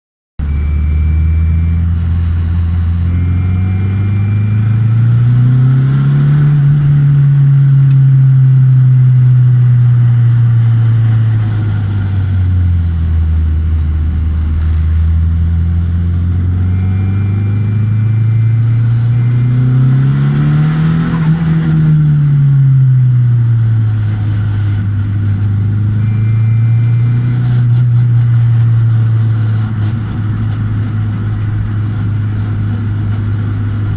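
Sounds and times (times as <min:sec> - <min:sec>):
car engine revving: 0:00.4 - 0:33.9
engine whining noise: 0:00.4 - 0:33.9.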